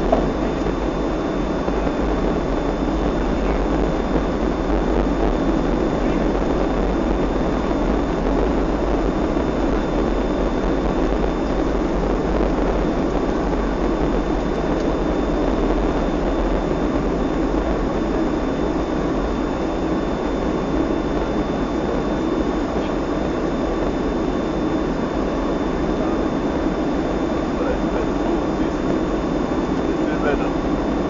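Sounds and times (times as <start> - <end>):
faint high whine: 0.0 - 31.0
low rumble: 0.0 - 31.0.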